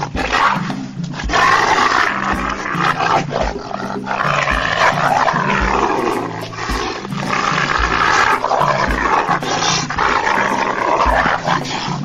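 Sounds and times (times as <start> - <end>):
background music with low beat: 0.0 - 12.0
wolf snarling and growling: 0.0 - 12.0.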